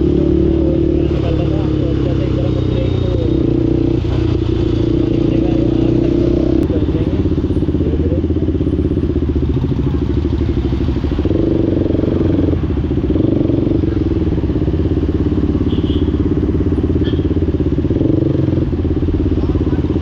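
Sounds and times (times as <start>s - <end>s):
single-cylinder motorcycle engine: 0.0s - 20.0s.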